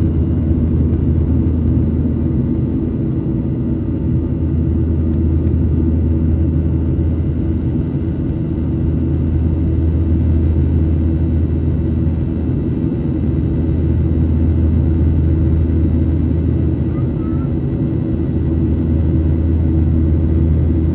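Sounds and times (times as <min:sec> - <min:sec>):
jet airliner drone in flight: 0:00.0 - 0:20.9.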